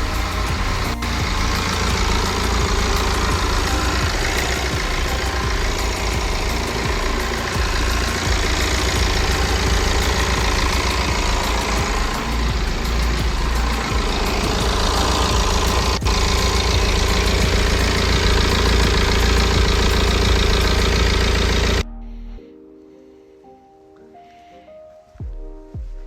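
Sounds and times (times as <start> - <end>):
diesel engine idling: 0.0 - 21.8.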